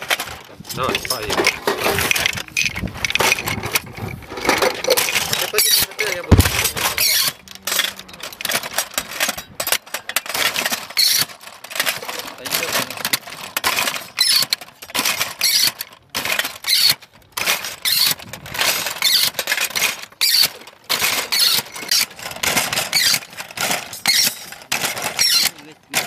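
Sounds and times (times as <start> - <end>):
metallic clanks and scrapes: 0.0 - 26.0.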